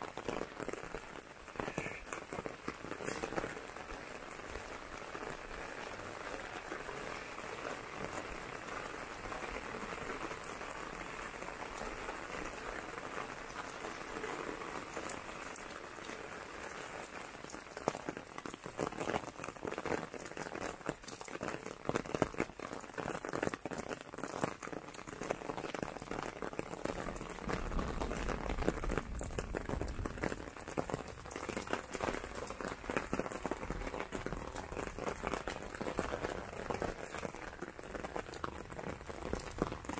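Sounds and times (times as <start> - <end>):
close raindrops ticking: 0.0 - 39.9
rain on road and foliage: 0.0 - 39.9.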